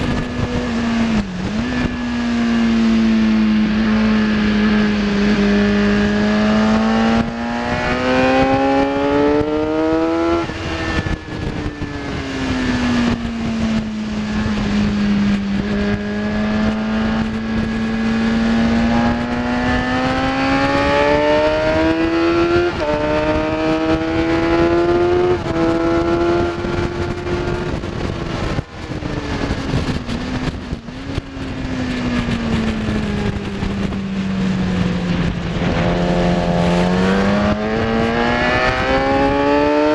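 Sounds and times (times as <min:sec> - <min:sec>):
motorcycle engine at full revs: 0:00.0 - 0:39.9.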